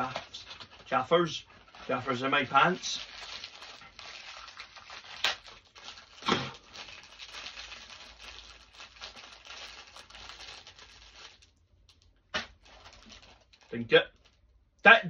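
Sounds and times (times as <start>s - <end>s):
packaging tearing: 0.0s - 14.4s
packaging crinkling and rustling: 0.0s - 14.6s.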